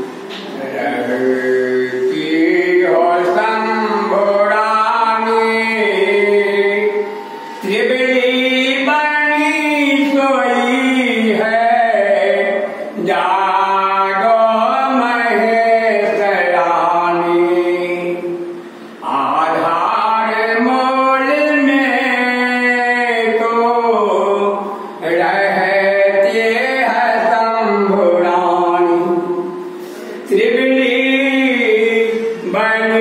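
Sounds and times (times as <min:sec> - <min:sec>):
person chanting a hymn: 0:00.0 - 0:33.0.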